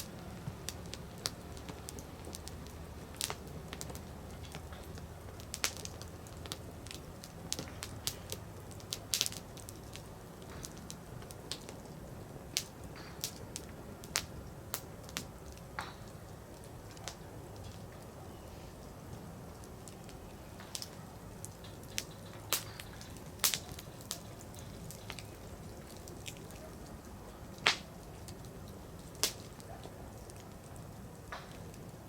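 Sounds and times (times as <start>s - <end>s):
firewood crackling and popping: 0.0s - 32.0s.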